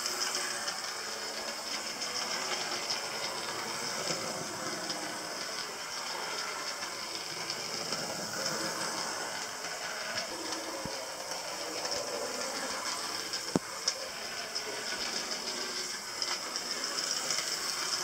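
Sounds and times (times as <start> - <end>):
model train motor whirr: 0.0 - 18.0
wheels clicking over track: 0.0 - 18.0.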